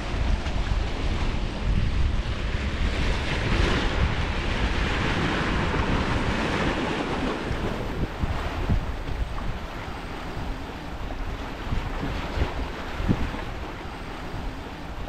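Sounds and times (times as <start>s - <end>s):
sea waves washing against rocks: 0.0s - 15.0s
wind buffeting microphone: 0.0s - 15.0s.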